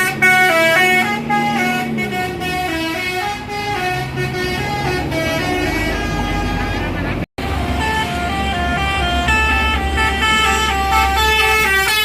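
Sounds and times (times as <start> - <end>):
musical horn playing a melody: 0.0 - 12.0.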